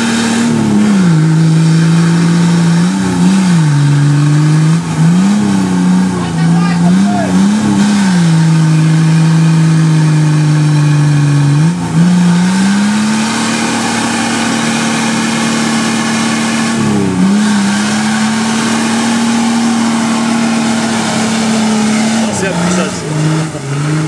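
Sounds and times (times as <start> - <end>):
off-road engine working hard: 0.0 - 24.0.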